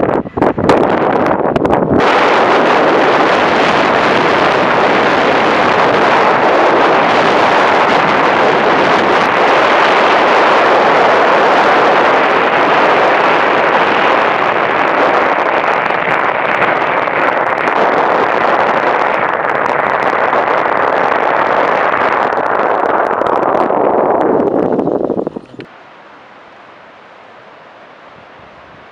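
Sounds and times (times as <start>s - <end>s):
vehicle road noise: 0.0s - 28.8s
rushing wind: 0.0s - 28.9s.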